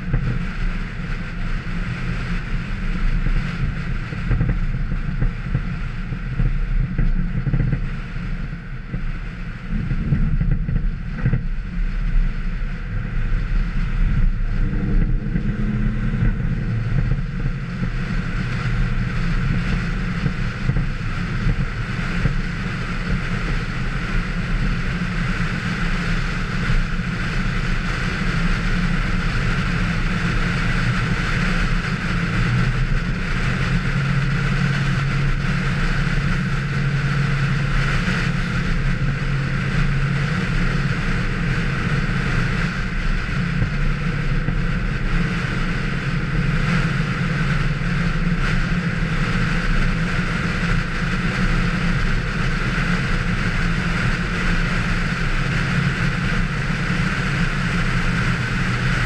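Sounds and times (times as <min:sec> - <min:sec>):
vehicle engine running: 0:00.0 - 0:59.0
wind rushing over microphone: 0:00.0 - 0:59.0.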